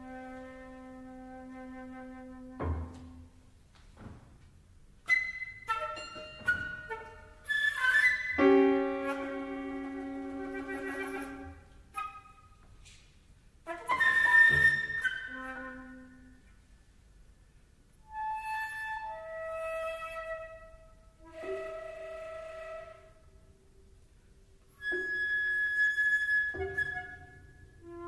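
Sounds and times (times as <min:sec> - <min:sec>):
flute and piano chamber music: 0:00.0 - 0:03.4, 0:05.0 - 0:13.0, 0:13.6 - 0:16.4, 0:18.0 - 0:23.6, 0:24.7 - 0:28.0.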